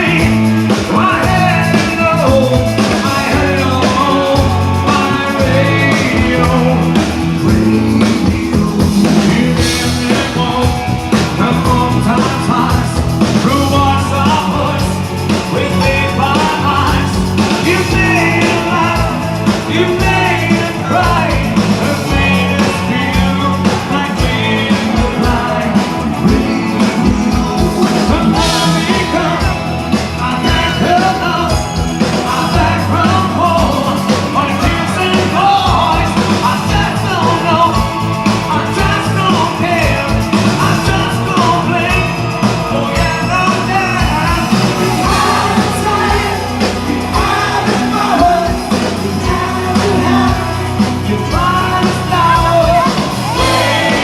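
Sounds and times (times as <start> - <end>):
person singing: 0.0 - 54.0
rock band playing live: 0.0 - 54.0
steady drum beat: 0.0 - 54.0.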